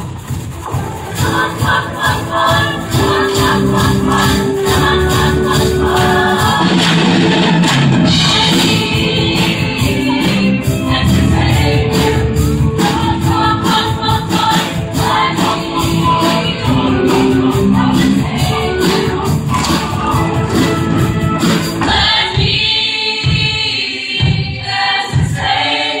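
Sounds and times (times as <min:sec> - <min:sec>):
live band with drums and horns: 0:00.0 - 0:23.6
choir singing pop song: 0:01.0 - 0:26.0.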